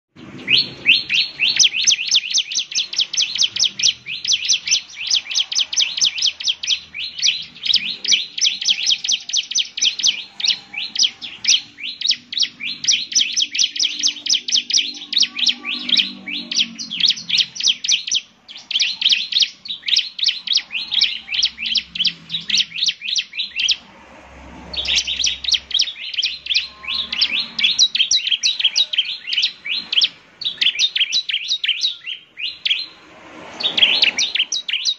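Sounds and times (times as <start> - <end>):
bird singing sharp high chips: 0.2 - 34.9.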